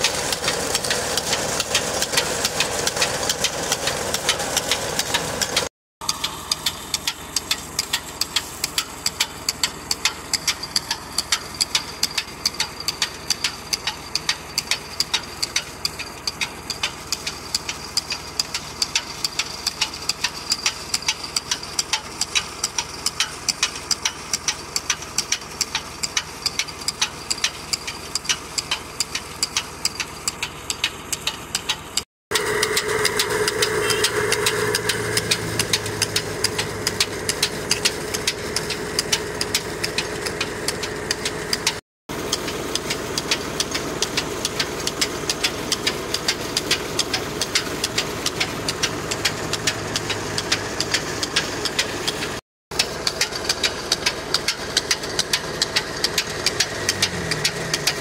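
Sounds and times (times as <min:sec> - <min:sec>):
fast even clicking: 0:00.0 - 0:58.0
tractor diesel engine running: 0:00.0 - 0:58.0.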